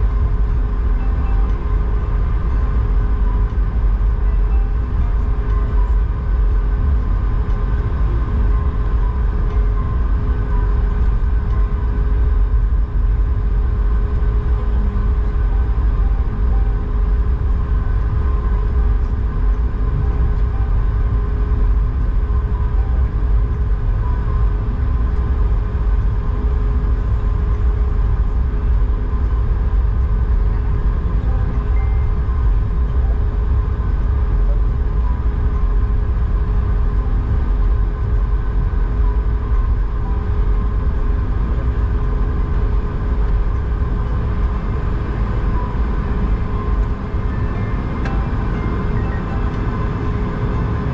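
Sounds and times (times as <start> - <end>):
aircraft cabin rumble: 0.0 - 50.9
constant engine tones: 0.0 - 50.9.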